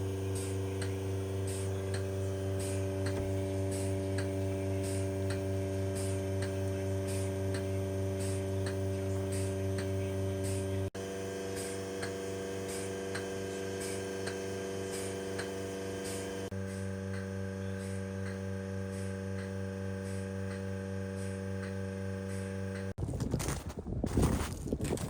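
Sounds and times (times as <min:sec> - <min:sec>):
vacuum pump hum: 0:00.0 - 0:23.0.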